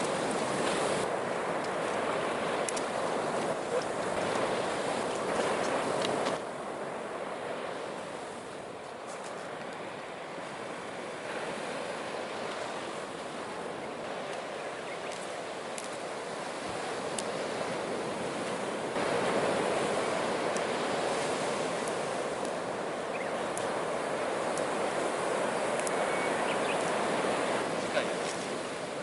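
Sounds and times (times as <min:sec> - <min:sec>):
surf breaking on shore: 0:00.0 - 0:29.0.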